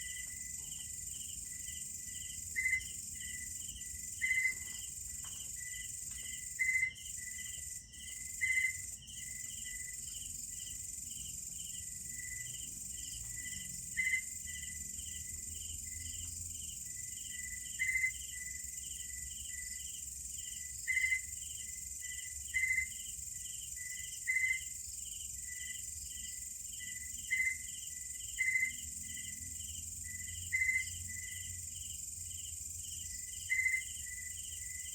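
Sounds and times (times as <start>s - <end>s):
crickets chirping: 0.0s - 34.9s
insects droning: 0.0s - 34.9s.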